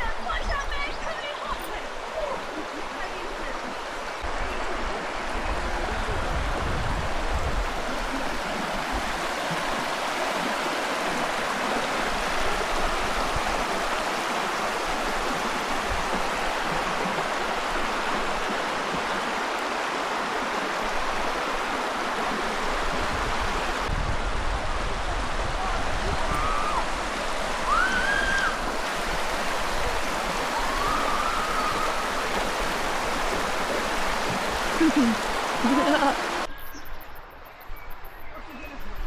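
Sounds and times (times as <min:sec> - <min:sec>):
river water rushing over rock: 0:00.0 - 0:36.5.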